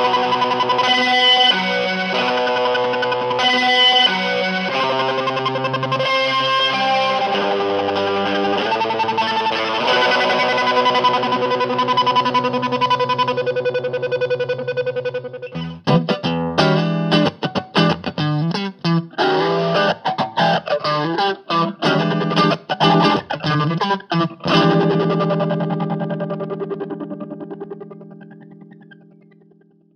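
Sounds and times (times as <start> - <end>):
electric guitar with effects: 0.0 - 29.9.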